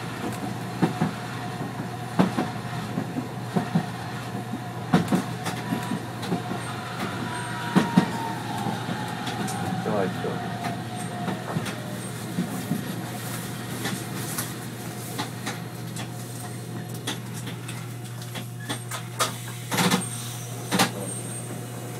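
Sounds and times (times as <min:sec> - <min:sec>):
tram clicks and knocks: 0:00.0 - 0:21.6
tram low hum: 0:00.0 - 0:21.9.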